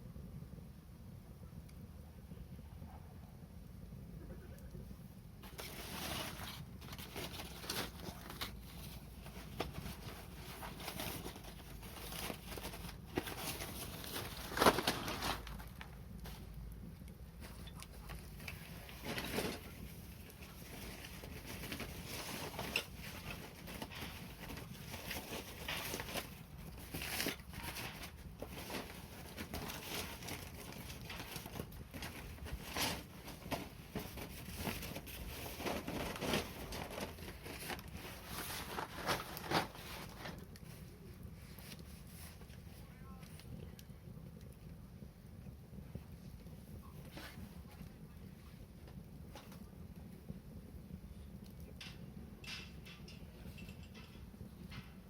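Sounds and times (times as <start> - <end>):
low steady hum: 0.0 - 55.0
wood fire crackling and popping: 0.1 - 2.6, 3.4 - 55.0.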